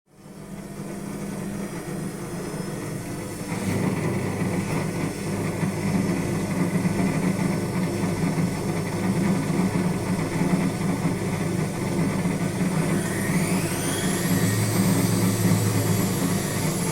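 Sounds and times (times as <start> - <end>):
washing machine pumping and spinning: 0.1 - 16.9.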